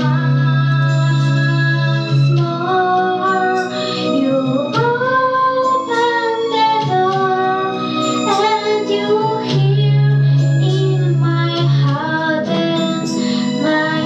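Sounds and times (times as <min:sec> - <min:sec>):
girl singing: 0:00.0 - 0:14.0
instrumental accompaniment: 0:00.0 - 0:14.0.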